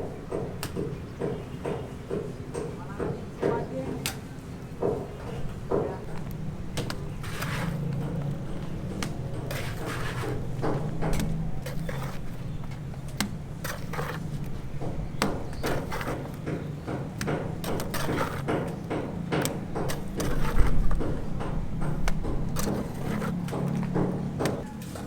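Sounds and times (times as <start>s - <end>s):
building work knocks and clatter: 0.0s - 25.0s.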